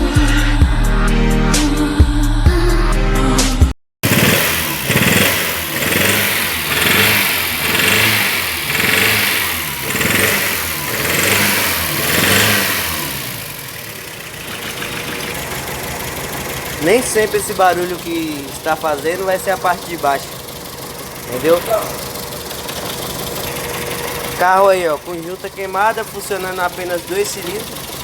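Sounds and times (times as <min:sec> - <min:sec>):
rough car engine revving: 0:04.0 - 0:28.0.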